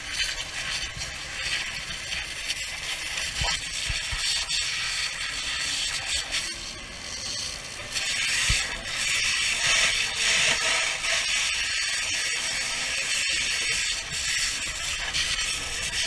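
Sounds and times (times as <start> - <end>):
crackles and clicks: 0.0 - 16.0
fire hose water spraying: 0.0 - 16.0.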